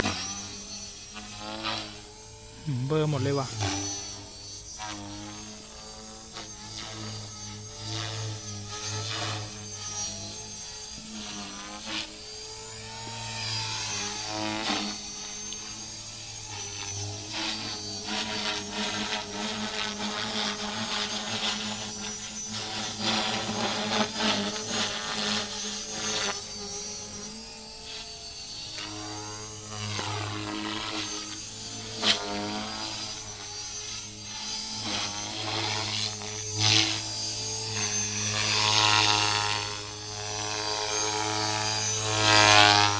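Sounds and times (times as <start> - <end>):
rc helicopter motor and rotor whine: 0.0 - 42.9.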